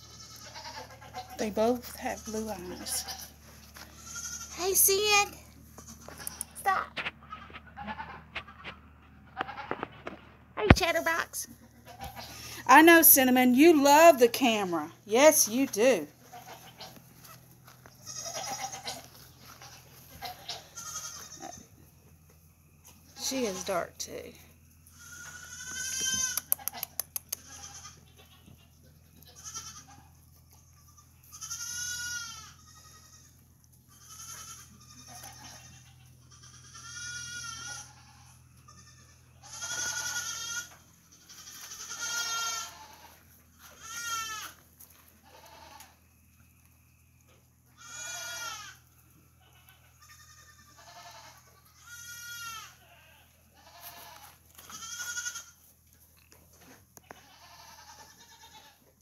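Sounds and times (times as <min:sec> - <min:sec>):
young goats bleating: 0:00.0 - 0:22.2, 0:22.8 - 0:55.7, 0:56.6 - 0:59.0.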